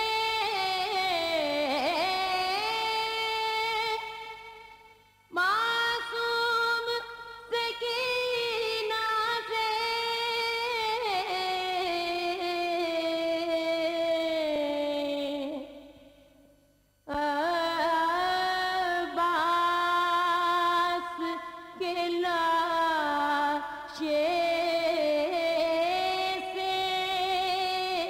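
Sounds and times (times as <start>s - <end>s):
woman chanting a lament: 0.0s - 4.6s, 5.4s - 15.9s, 17.1s - 28.0s.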